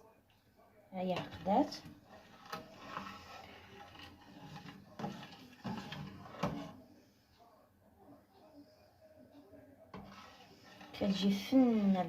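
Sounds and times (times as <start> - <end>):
spoon stirring soup in pot: 0.1 - 7.3, 8.2 - 12.0.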